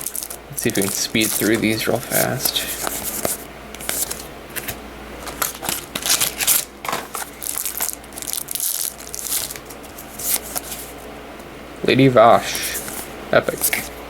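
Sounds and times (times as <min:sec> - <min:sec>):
cards and wrappers rustling: 0:00.0 - 0:11.1, 0:12.2 - 0:14.0.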